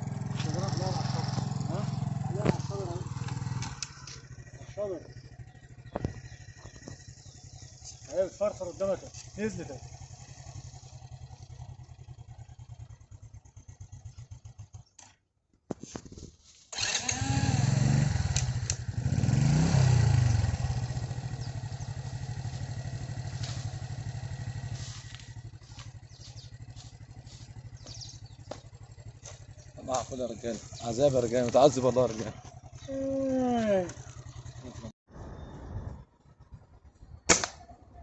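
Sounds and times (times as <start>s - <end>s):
small engine puttering and revving: 0.0s - 15.2s, 16.5s - 35.0s.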